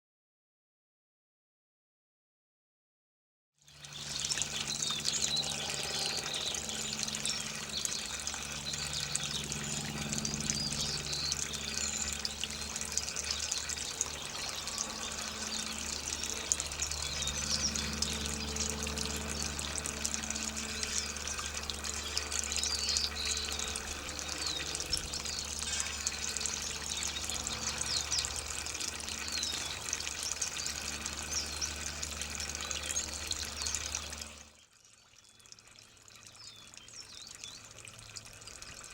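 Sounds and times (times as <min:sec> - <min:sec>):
low steady hum: 0:03.7 - 0:35.2
small birds chirping: 0:03.7 - 0:38.9
water running and splashing: 0:03.7 - 0:38.9.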